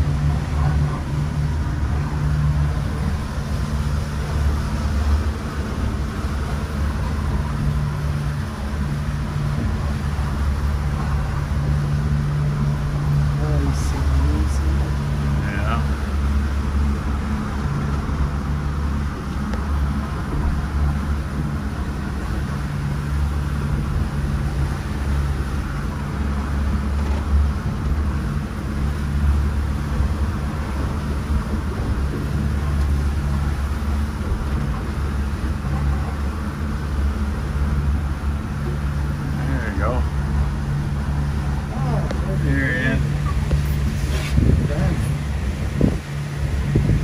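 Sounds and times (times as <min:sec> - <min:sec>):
boat engine drone: 0:00.0 - 0:47.0
water and wind hiss: 0:00.0 - 0:47.0.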